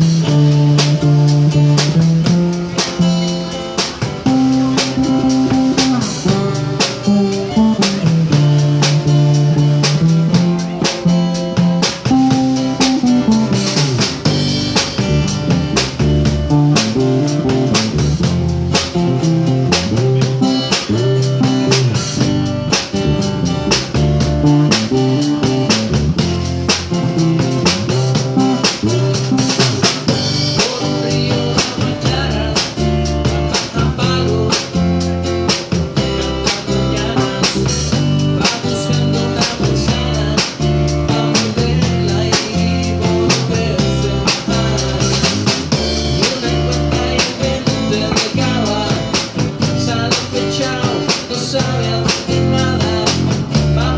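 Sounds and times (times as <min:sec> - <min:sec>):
acoustic guitars: 0:00.0 - 0:53.9
drum kit beat: 0:00.0 - 0:53.9.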